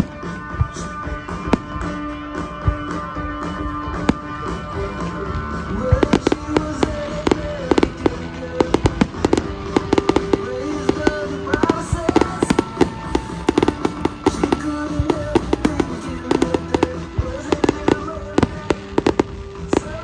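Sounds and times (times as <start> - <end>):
fireworks crackling and popping: 0.0 - 20.0
music playing: 0.0 - 20.0.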